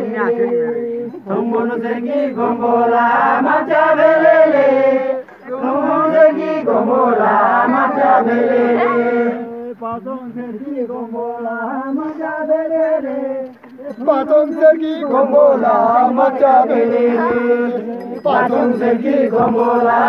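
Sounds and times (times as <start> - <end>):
group of voices singing: 0.0 - 20.0.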